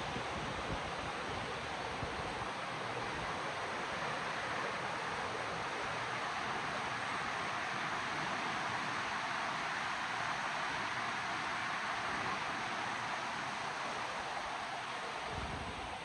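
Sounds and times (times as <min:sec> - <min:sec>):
river water rushing: 0:02.5 - 0:16.0.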